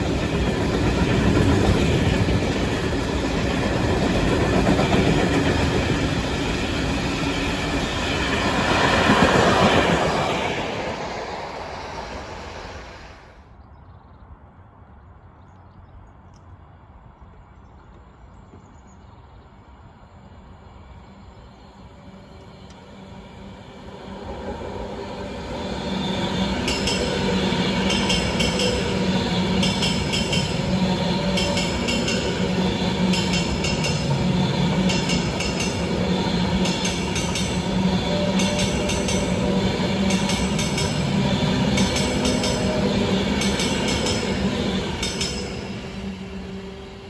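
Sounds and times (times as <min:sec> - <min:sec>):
train rushing past: 0:00.0 - 0:13.6, 0:19.6 - 0:47.0.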